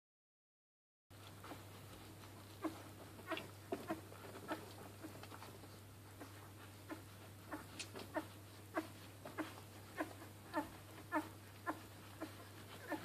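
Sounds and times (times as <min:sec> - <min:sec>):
steady low hum: 0:01.1 - 0:13.0
puppies squeaking: 0:02.4 - 0:13.0.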